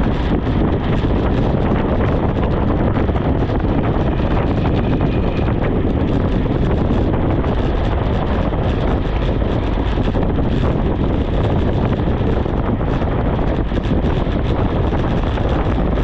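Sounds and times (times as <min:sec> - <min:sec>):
wind buffeting the microphone: 0:00.0 - 0:16.0.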